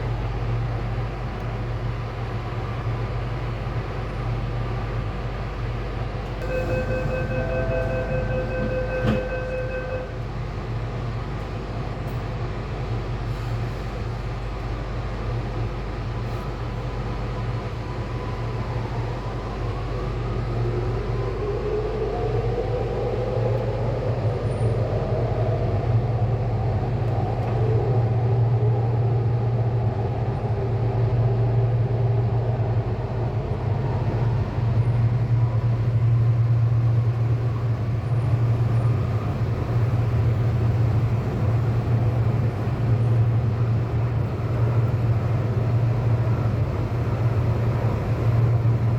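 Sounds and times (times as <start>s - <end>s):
train running with low rumble: 0.0s - 48.9s.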